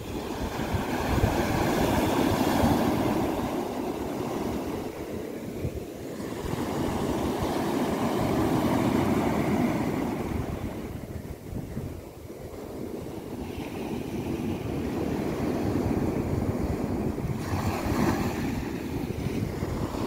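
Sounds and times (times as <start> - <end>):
waves washing on beach: 0.0 - 20.0
wind buffeting microphone: 0.0 - 20.0.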